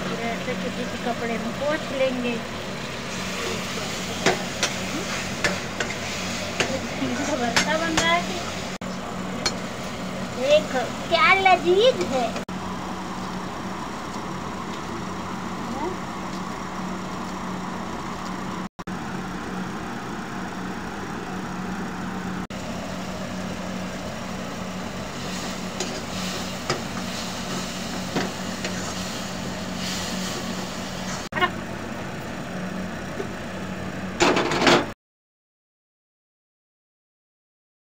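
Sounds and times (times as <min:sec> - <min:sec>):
low hum and rush: 0:00.0 - 0:34.9.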